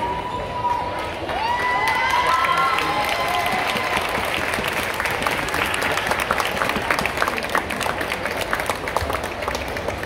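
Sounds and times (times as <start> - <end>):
crowd applauding: 0.4 - 10.0.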